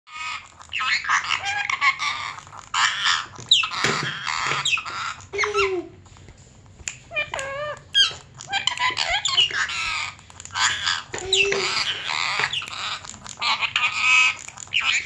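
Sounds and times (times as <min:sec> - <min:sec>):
parakeet chattering: 0:00.1 - 0:06.2, 0:06.8 - 0:15.0.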